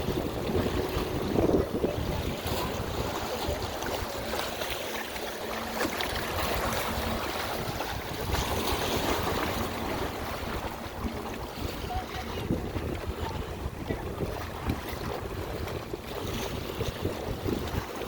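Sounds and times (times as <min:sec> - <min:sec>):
waves washing onto shore: 0:00.0 - 0:18.0
wind buffeting microphone: 0:00.0 - 0:18.0.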